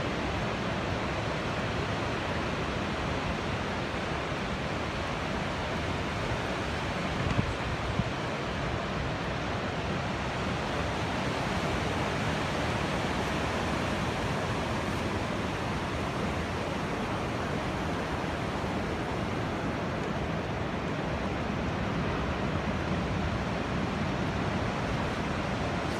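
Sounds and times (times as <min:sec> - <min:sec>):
ocean surf breaking: 0:03.0 - 0:25.9.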